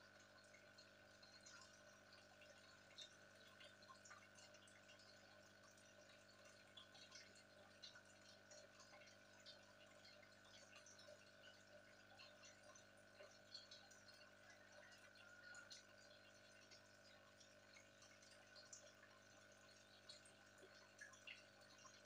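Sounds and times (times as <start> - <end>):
aquarium air stone bubbling: 0.0 - 22.0
low steady hum: 0.0 - 22.0.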